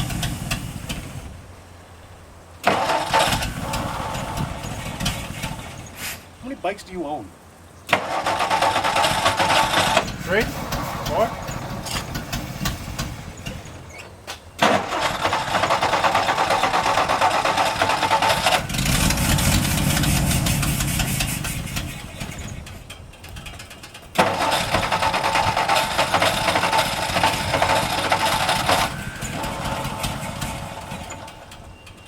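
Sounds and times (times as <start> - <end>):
truck engine starting and running: 0.0 - 32.0.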